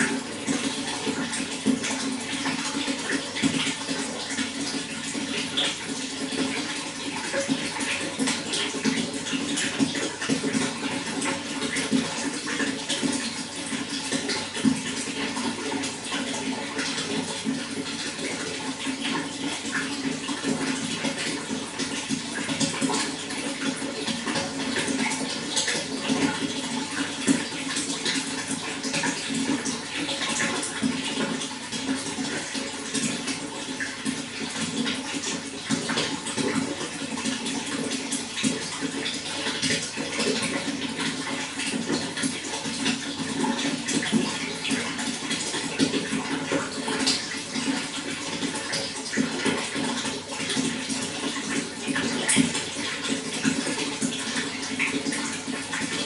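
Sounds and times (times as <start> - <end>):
running water splashing: 0.0 - 56.0.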